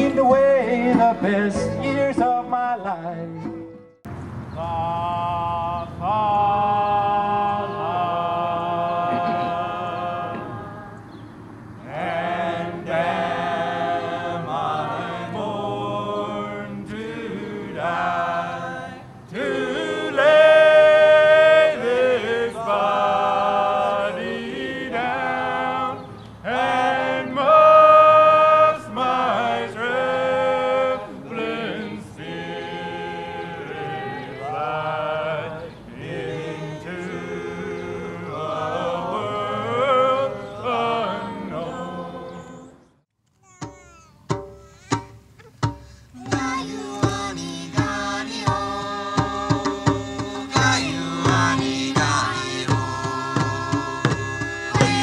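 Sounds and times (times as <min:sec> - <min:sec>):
voices singing slow chant: 0:04.5 - 0:43.0, 0:44.6 - 0:55.0.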